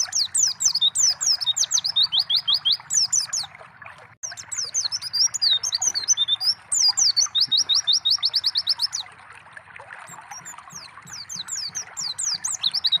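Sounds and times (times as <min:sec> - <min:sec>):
bird singing whistled notes: 0:00.0 - 0:03.5, 0:04.2 - 0:09.0, 0:10.1 - 0:13.0
water trickling: 0:00.0 - 0:13.0.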